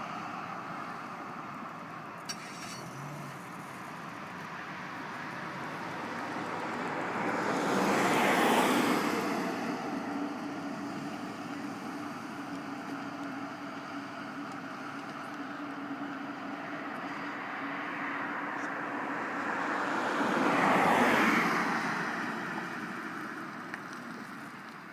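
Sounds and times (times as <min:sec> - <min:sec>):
low engine hum: 0:00.0 - 0:24.9
vehicle passing: 0:02.4 - 0:24.7.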